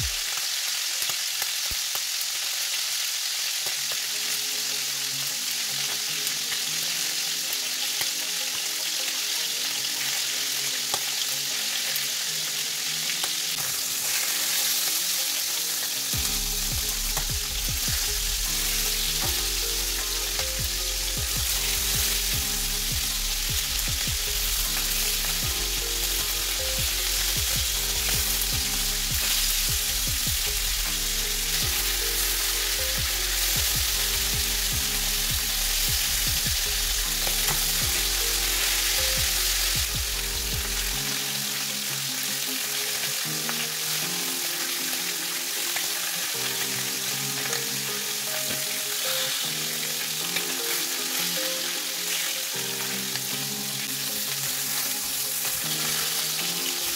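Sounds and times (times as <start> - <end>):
meat sizzling in frying pan: 0.0 - 56.9.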